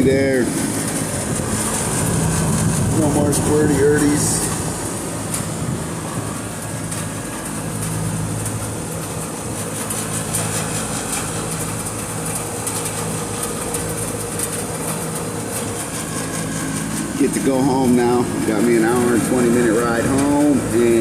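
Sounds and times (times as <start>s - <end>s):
air conditioning unit humming: 0.0s - 21.0s.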